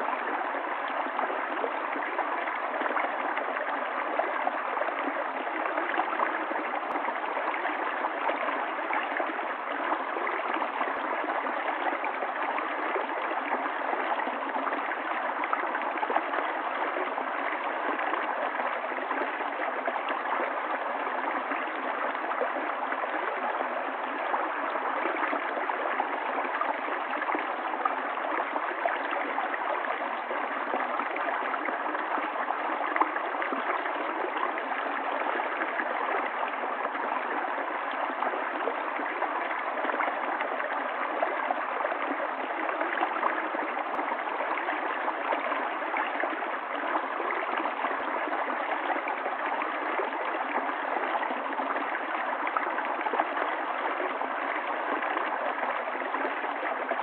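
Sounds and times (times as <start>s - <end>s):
water gurgles and splashes: 0.0s - 57.0s.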